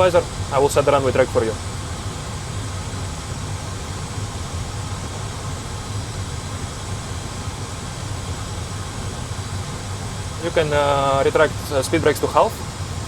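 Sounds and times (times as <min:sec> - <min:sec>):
even airflow hiss: 0:00.0 - 0:13.0
low cockpit hum: 0:00.0 - 0:13.0.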